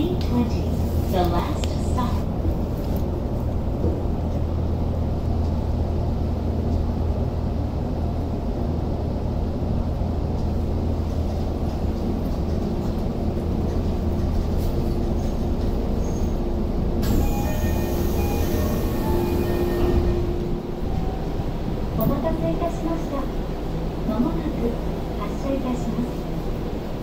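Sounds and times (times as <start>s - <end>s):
subway car rumbling: 0.0s - 27.0s.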